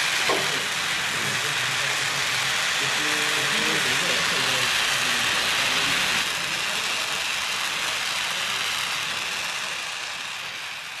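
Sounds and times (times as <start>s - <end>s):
torch flame hissing: 0.0s - 11.0s.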